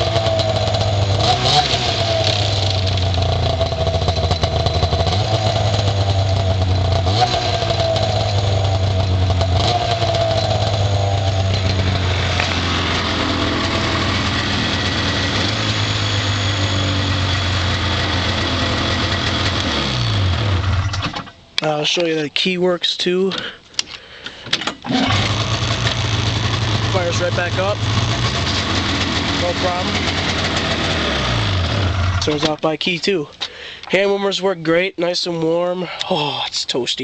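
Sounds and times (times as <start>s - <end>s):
snowmobile engine idling: 0.0s - 21.0s, 24.9s - 34.2s.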